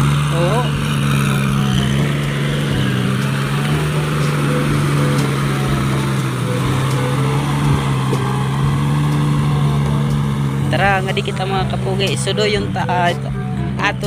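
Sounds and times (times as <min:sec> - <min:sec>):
rotary tiller churning soil: 0:00.0 - 0:13.4
tractor diesel engine running: 0:00.0 - 0:14.0.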